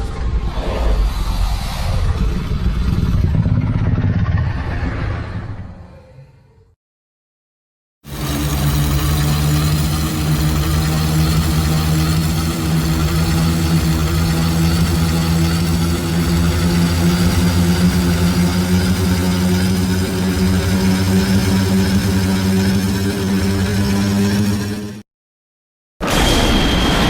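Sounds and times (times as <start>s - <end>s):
low engine-like drone: 0.0s - 6.8s, 8.1s - 25.0s.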